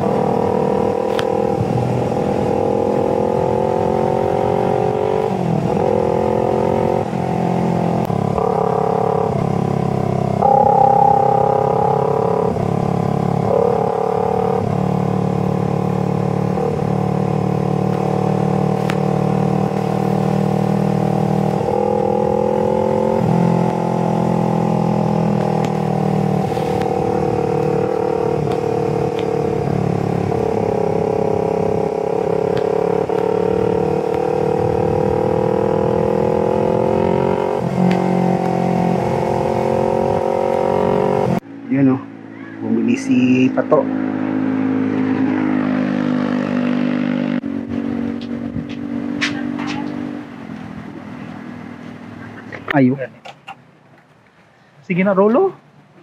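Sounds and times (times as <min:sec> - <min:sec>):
motorcycle engine running: 0:00.0 - 0:52.8.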